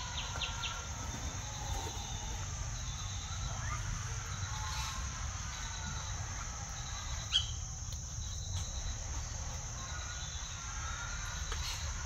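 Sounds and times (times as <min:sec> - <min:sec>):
crickets droning: 0:00.0 - 0:12.0
faint chirps: 0:00.0 - 0:12.0.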